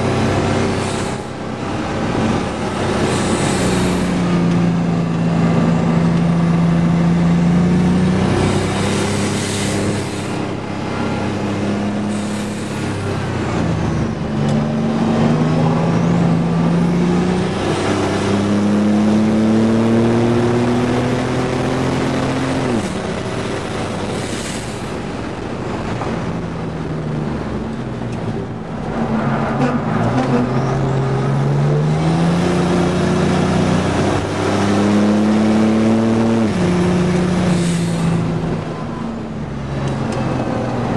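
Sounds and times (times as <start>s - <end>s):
car engine accelerating: 0.0s - 40.9s
road and wind noise: 0.0s - 40.9s.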